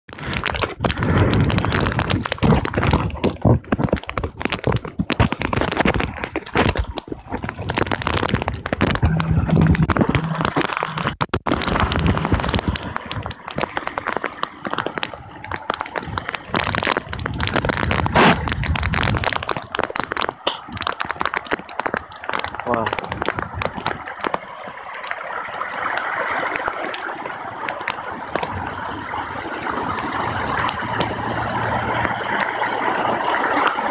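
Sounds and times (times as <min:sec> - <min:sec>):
wind and rain buffeting microphone: 0:00.1 - 0:33.9.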